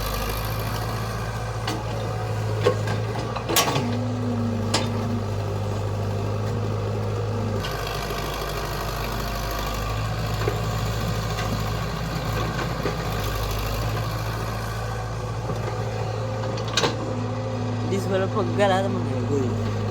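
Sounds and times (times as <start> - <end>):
heavy diesel engine running: 0.0 - 19.9.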